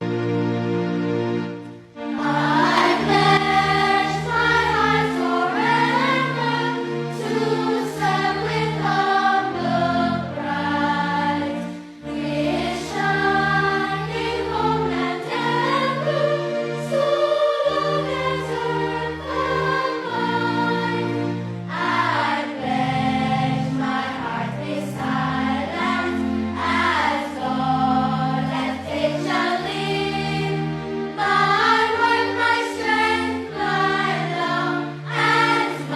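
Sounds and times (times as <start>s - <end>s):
choir singing: 2.0s - 35.9s.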